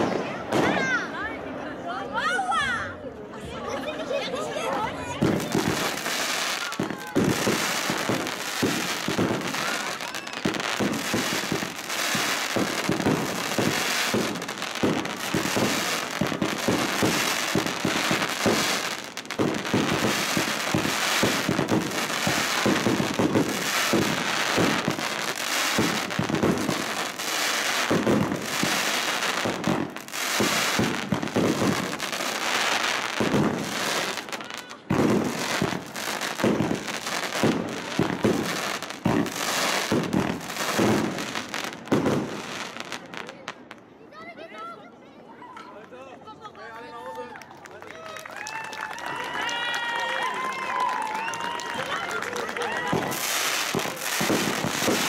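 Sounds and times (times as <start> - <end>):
fireworks bursts and crackling: 0.0 - 1.6, 3.7 - 44.0, 47.7 - 55.0.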